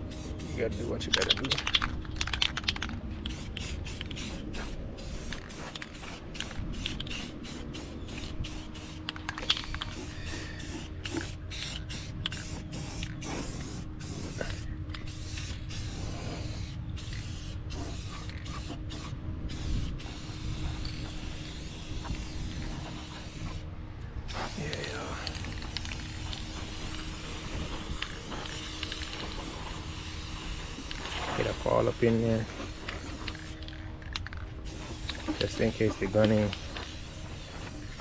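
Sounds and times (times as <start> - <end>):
aerosol can spraying: 0.1 - 23.6, 24.3 - 33.7, 34.6 - 38.0.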